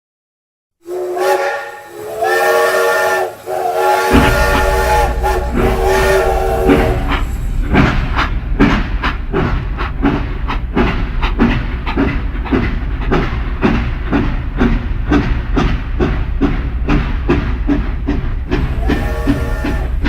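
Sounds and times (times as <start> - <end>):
train running rhythmic beat: 0.8 - 20.0
constant low rumble: 3.8 - 20.0.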